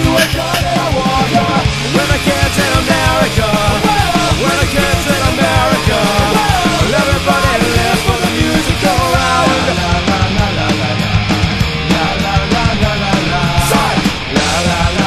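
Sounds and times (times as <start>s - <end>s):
rock music with full band: 0.0s - 15.0s.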